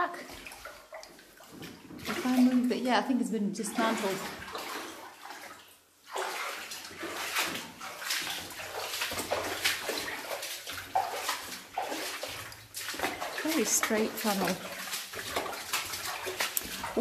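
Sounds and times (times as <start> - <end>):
boots splashing through water: 0.0 - 17.0.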